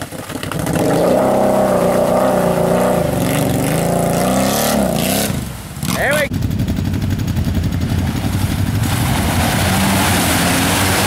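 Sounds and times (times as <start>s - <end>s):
quad bike engine revving: 0.2s - 11.0s.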